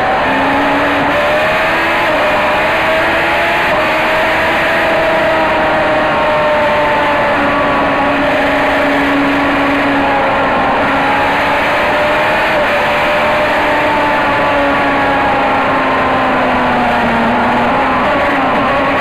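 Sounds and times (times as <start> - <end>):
racing car engine at high revs: 0.0 - 19.0
road and wind noise: 0.0 - 19.0.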